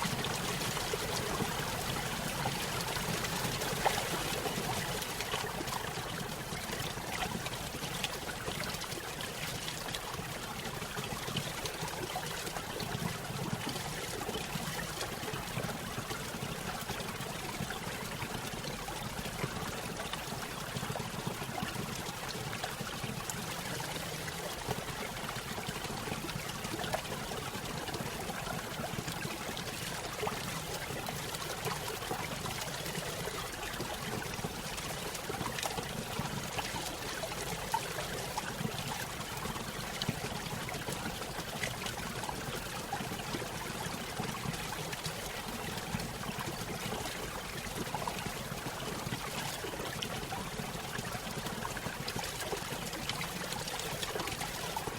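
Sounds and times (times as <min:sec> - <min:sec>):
stream pouring over waterfall: 0:00.0 - 0:54.9.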